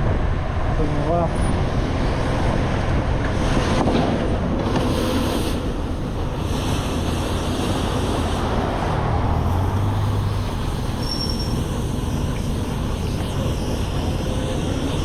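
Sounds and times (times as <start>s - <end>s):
passing vehicle engine hum: 0.0s - 15.0s
road traffic noise: 0.0s - 15.0s.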